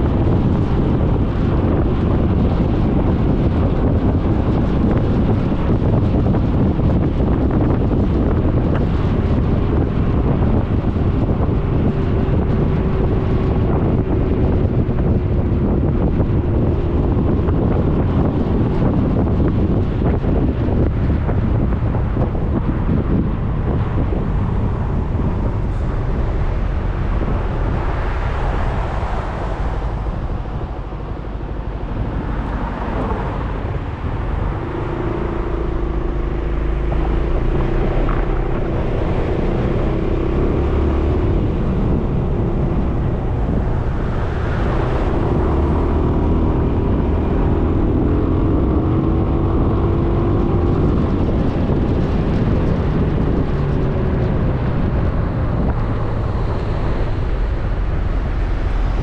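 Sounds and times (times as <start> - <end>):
scooter engine drone: 0.0 - 59.0
wind rumbling on microphone: 0.0 - 59.0.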